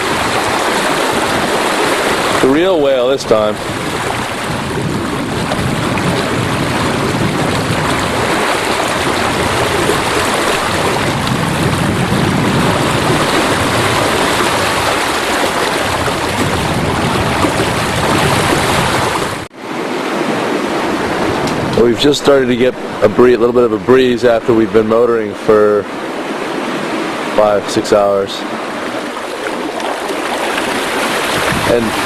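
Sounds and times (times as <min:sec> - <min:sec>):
water rushing along hulls: 0:00.0 - 0:32.0.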